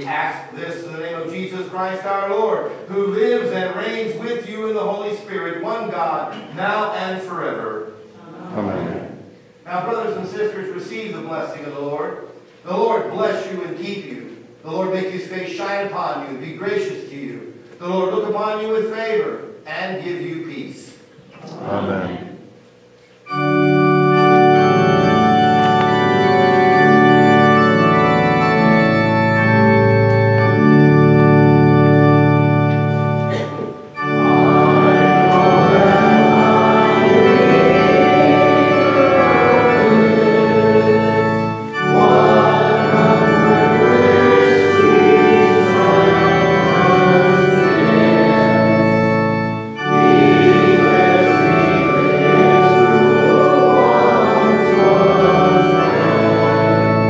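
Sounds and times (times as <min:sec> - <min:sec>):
church organ playing chords: 0:00.0 - 0:17.1, 0:18.1 - 0:57.0.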